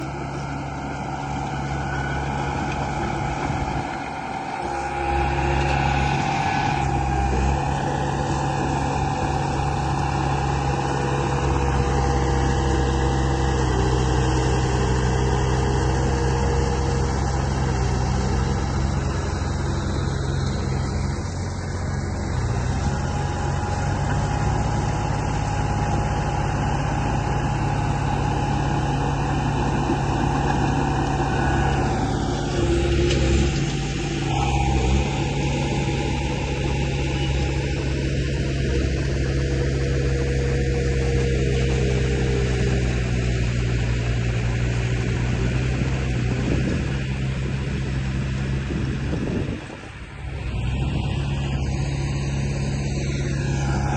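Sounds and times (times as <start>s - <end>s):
construction machine engine running: 0.0s - 53.9s.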